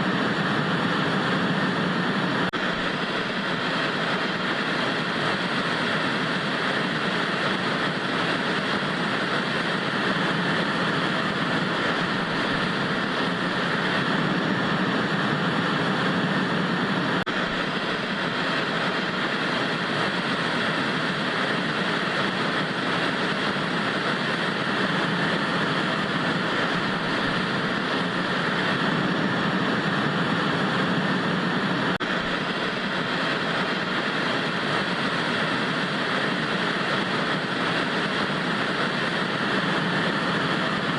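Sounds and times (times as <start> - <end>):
tv static hiss: 0.0 - 40.9.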